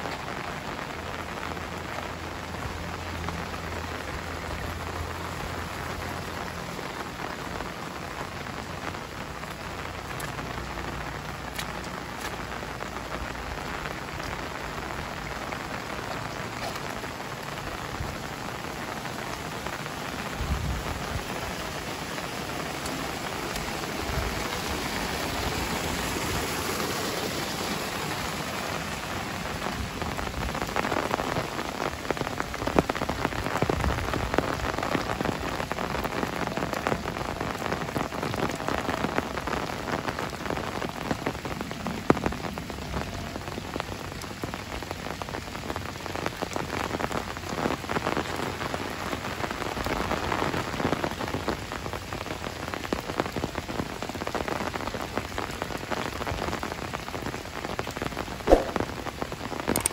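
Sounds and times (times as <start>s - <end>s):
close raindrop hits: 0.0s - 59.9s
heavy rain falling: 0.0s - 59.9s.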